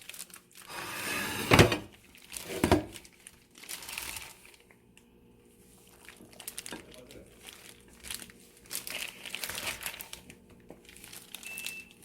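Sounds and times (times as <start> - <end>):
plastic crinkling: 0.0 - 5.0, 5.6 - 12.0.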